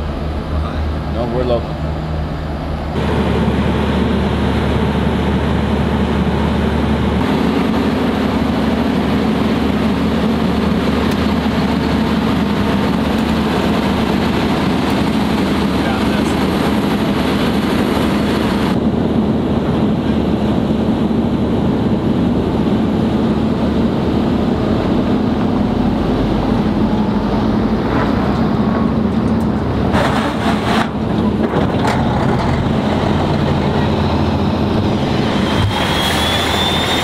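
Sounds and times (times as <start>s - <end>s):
diesel truck engines under load: 0.0s - 37.0s.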